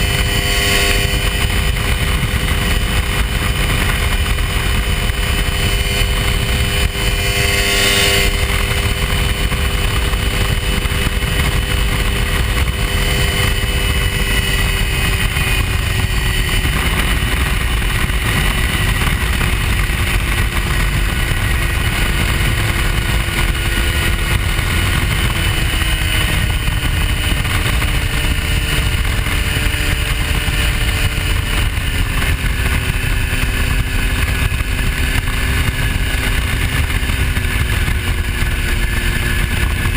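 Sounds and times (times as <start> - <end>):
heavy wind rush: 0.0 - 39.9
ultralight aircraft engine droning: 0.0 - 39.9.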